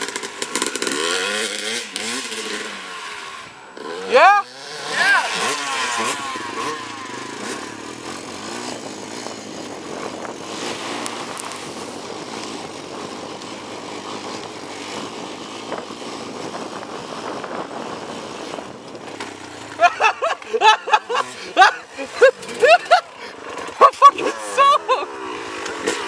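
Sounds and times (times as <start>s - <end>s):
atv engine running: 0.0s - 26.0s
tyres on gravel and dirt: 0.0s - 26.0s.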